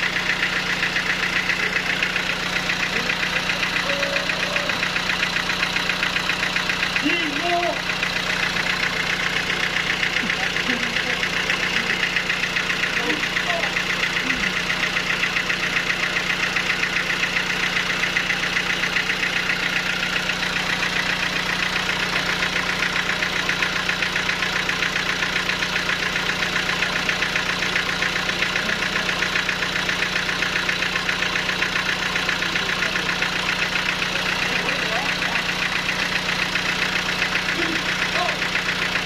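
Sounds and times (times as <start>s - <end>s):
sawmill machinery droning: 0.0s - 39.0s.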